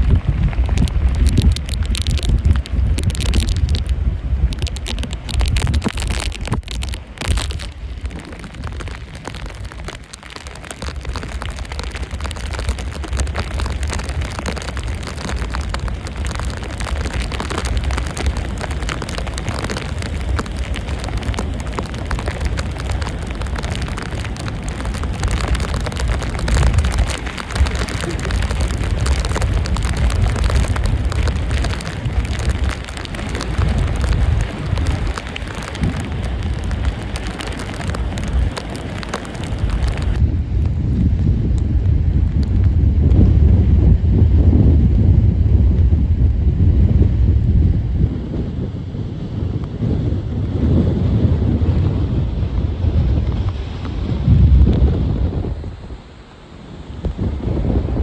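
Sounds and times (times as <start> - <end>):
rain: 0.0 - 58.0
wind buffeting microphone: 0.0 - 58.0.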